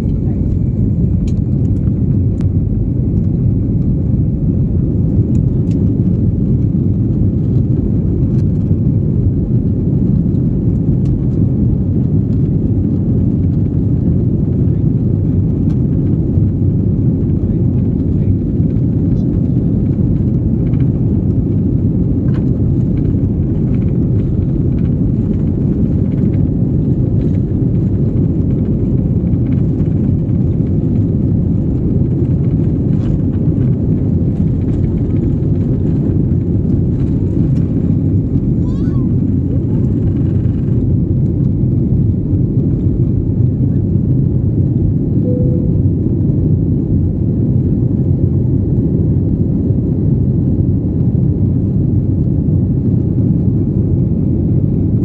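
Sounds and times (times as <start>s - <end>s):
jet engines and wheels rumbling: 0.0s - 55.0s.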